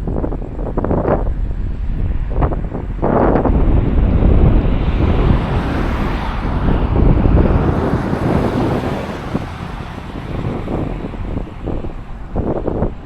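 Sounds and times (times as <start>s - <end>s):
wind gusting against microphone: 0.0s - 13.0s.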